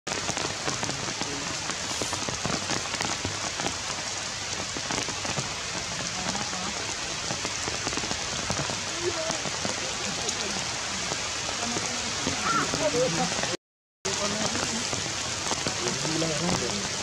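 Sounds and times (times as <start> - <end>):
raindrops ticking close by: 0.1 - 17.0
steady rain hiss: 0.1 - 17.0.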